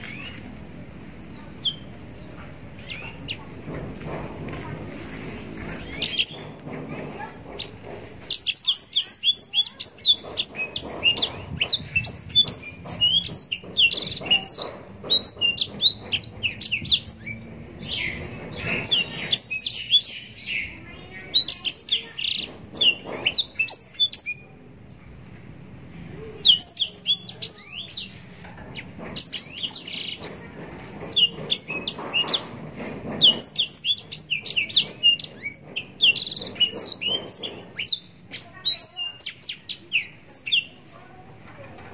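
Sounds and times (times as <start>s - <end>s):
canary singing: 1.1s - 3.6s, 5.6s - 24.6s, 26.1s - 41.3s.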